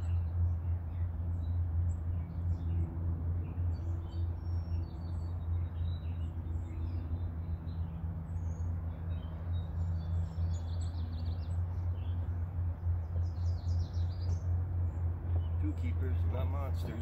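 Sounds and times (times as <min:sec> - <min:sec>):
birds chirping faintly: 0:00.0 - 0:17.0
steady low hum: 0:00.0 - 0:17.0.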